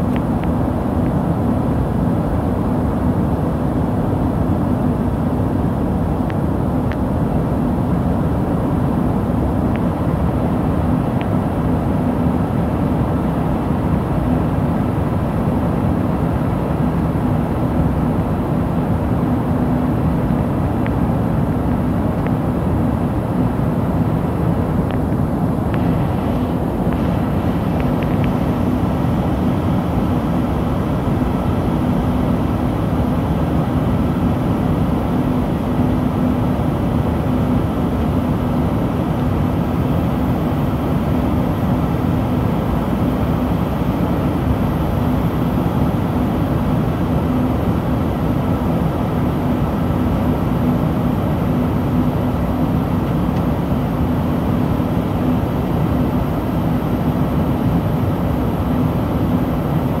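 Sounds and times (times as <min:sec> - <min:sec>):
jet cabin air rush and engine hum: 0:00.0 - 1:00.0.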